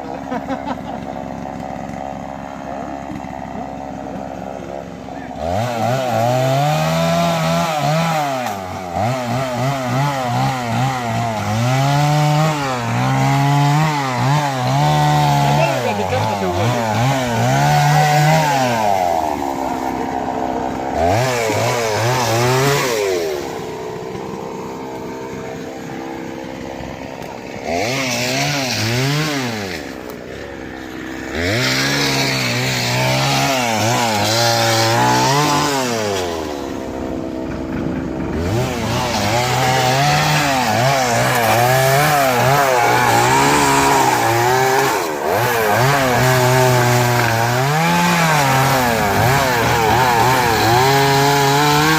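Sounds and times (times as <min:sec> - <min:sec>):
chainsaw cutting into tree trunk: 0:00.0 - 0:51.9.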